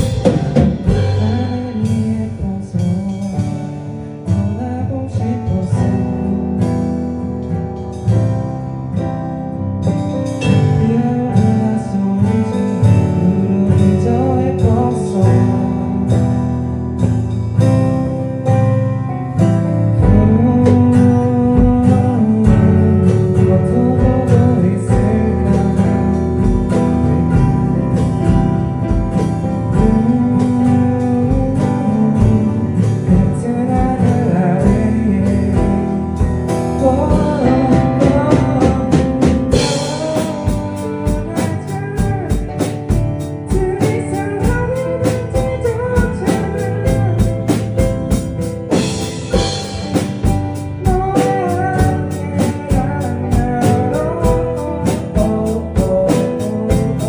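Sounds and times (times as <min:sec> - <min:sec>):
person singing: 0:00.0 - 0:07.1, 0:10.0 - 0:16.7, 0:19.8 - 0:28.1, 0:28.8 - 0:57.0
acoustic guitar: 0:00.0 - 0:57.0
drum kit: 0:00.0 - 0:57.0
keyboard: 0:00.0 - 0:57.0.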